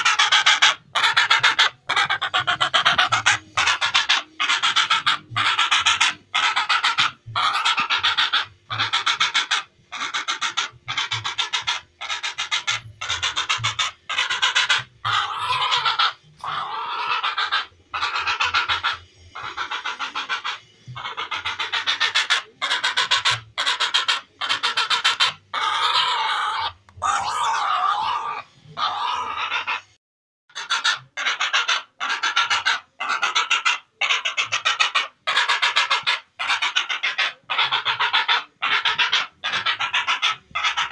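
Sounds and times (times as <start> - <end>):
heron rasping calls: 0.0 - 40.9.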